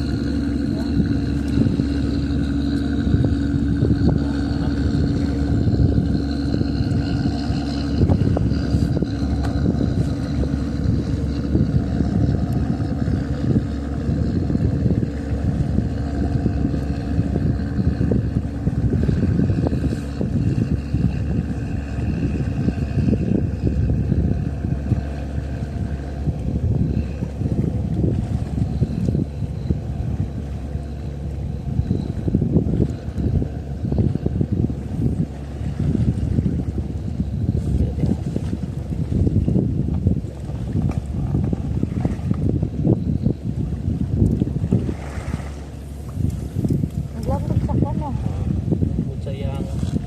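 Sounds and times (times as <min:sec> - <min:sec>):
motorboat engine running: 0:00.0 - 0:50.0
rough rushing noise: 0:00.0 - 0:50.0.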